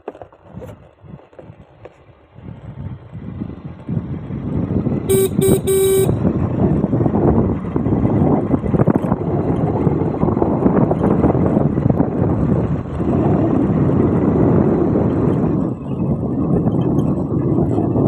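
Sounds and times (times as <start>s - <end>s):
wind buffeting microphone: 0.4s - 18.0s
motorcycle engine running: 0.8s - 18.0s.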